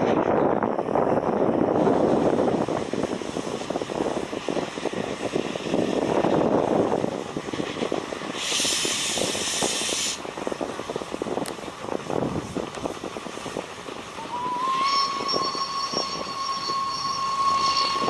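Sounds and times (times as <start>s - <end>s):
steam locomotive exhaust beats: 0.0s - 18.0s
steam hissing: 1.8s - 18.0s.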